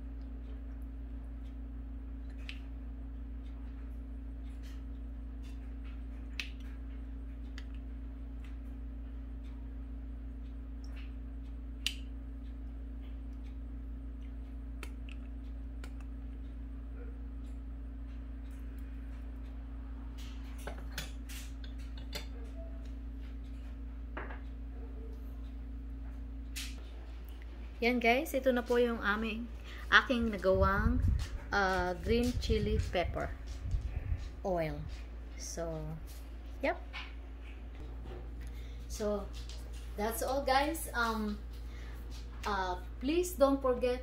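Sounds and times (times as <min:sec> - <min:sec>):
low hum: 0:00.0 - 0:44.0.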